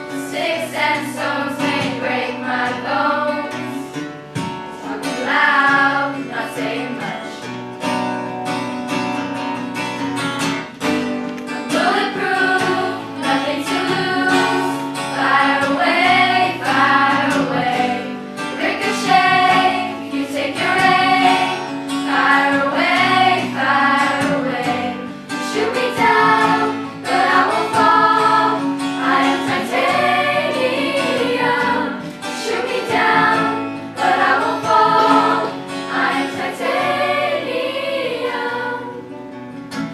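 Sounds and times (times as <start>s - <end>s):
choir singing: 0.0s - 3.9s, 4.7s - 7.4s, 11.7s - 39.1s
strummed guitar: 0.0s - 39.9s.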